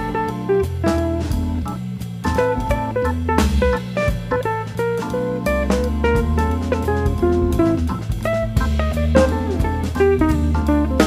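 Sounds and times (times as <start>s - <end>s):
plucked guitar notes: 0.0s - 1.6s, 2.3s - 11.0s
bass line: 0.0s - 11.0s
drum hits: 0.0s - 11.0s.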